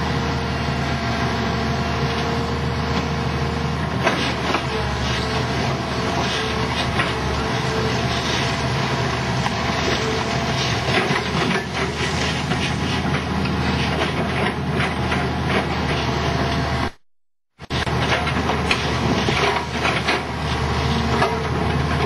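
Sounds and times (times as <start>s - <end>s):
excavator engine under load: 0.0s - 22.0s.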